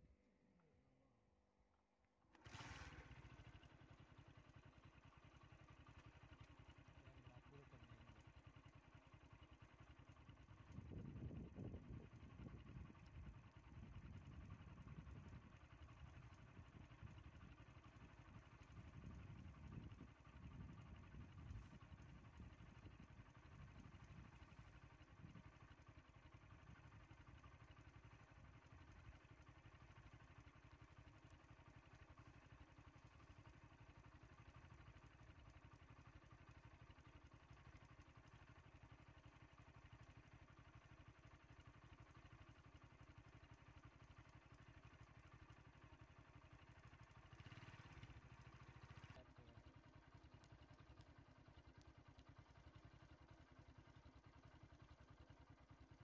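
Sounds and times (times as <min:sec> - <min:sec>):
faint low rumble: 0:00.0 - 0:56.0.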